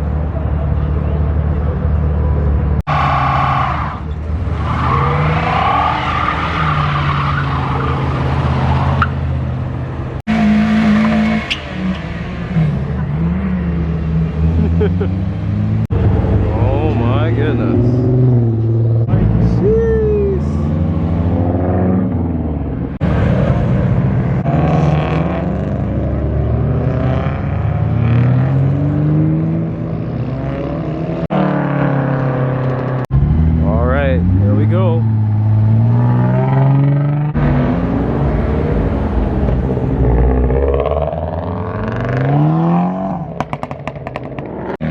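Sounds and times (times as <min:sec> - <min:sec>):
car engines running: 0:00.0 - 0:44.9.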